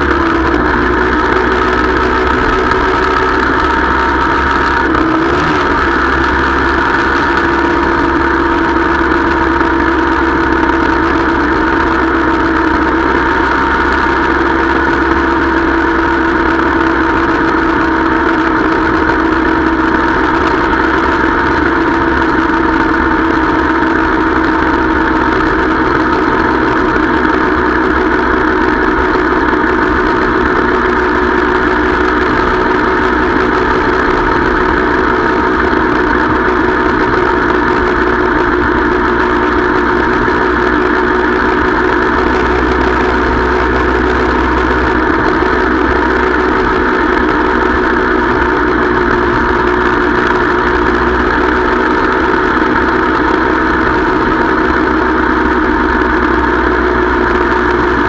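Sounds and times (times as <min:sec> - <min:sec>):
motorcycle engine running steadily: 0:00.0 - 0:58.0.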